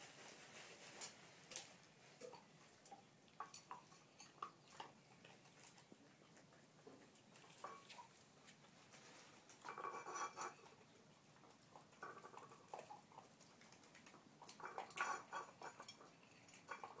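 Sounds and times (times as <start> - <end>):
dogs crunching food: 1.0 - 17.0
food bowls clinking and scraping: 3.4 - 17.0.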